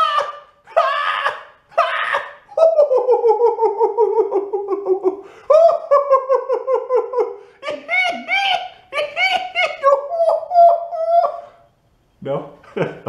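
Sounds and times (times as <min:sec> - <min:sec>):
man laughing exaggeratedly: 0:00.0 - 0:11.6, 0:12.7 - 0:13.0.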